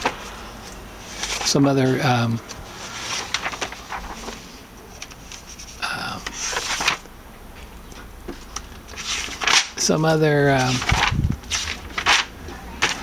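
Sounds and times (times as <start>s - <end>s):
book pages turning: 0.0s - 1.7s, 2.4s - 7.1s, 7.9s - 9.9s, 10.5s - 13.0s.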